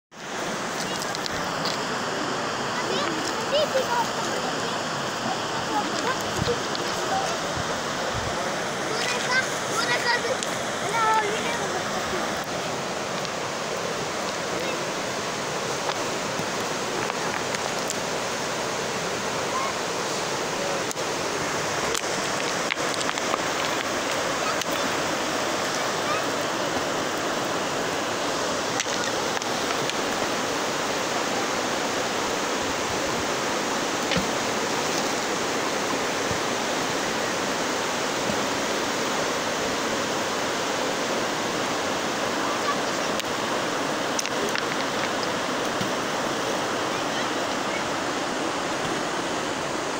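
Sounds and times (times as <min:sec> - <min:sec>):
river water rushing over rocks: 0:00.1 - 0:49.9.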